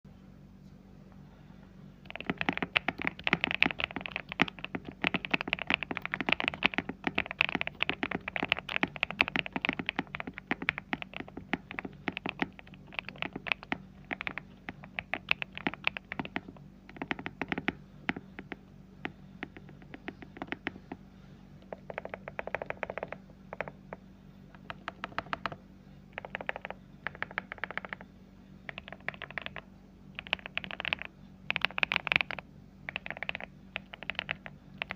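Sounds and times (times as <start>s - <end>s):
mechanical keyboard typing: 2.1s - 21.0s, 21.6s - 23.8s, 24.6s - 25.6s, 26.2s - 28.0s, 28.7s - 29.6s, 30.2s - 34.9s.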